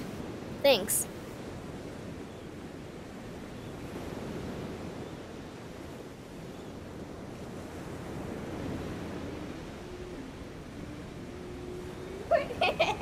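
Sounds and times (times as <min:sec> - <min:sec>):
ocean surf: 0:00.0 - 0:02.2, 0:03.0 - 0:13.0
wind rumbling on microphone: 0:00.0 - 0:13.0.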